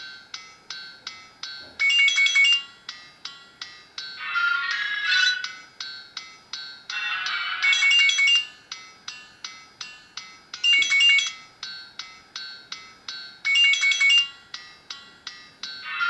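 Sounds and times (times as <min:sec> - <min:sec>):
high midi ringtone melody: 0:01.8 - 0:16.0.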